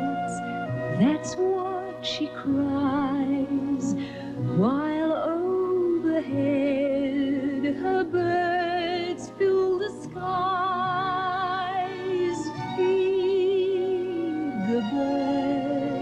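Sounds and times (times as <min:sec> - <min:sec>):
soft instrumental accompaniment: 0:00.0 - 0:16.0
woman singing ballad: 0:01.0 - 0:16.0.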